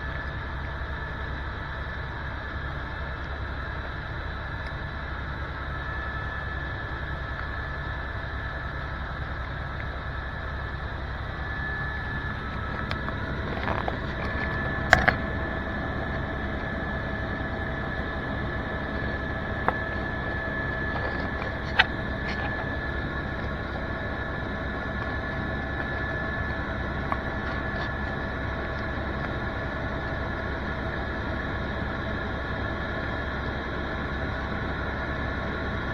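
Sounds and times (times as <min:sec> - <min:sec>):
helicopter engine and rotor drone: 0:00.0 - 0:35.9.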